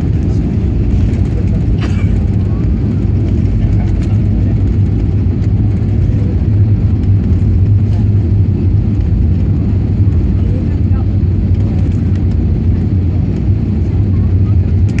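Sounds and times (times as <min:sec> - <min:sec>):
airplane landing rumble: 0:00.0 - 0:15.0.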